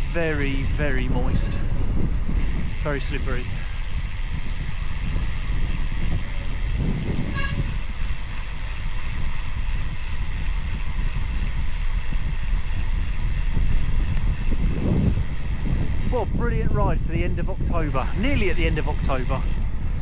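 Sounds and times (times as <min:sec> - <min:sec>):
bicycle tyres on wet road: 0:00.0 - 0:16.4, 0:17.0 - 0:20.0
wind buffeting microphone: 0:00.0 - 0:20.0.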